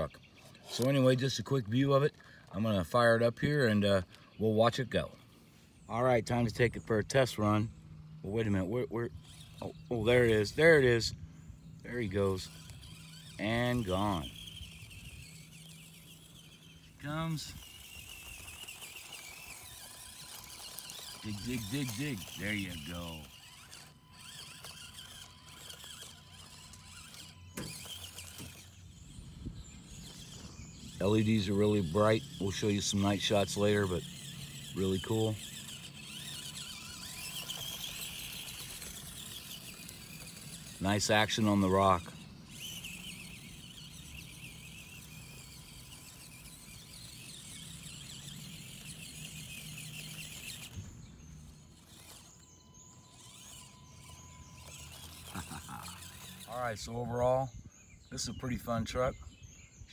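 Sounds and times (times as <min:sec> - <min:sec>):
tires on gravel: 0:00.0 - 0:59.8
toy car motor whining: 0:00.0 - 0:59.9.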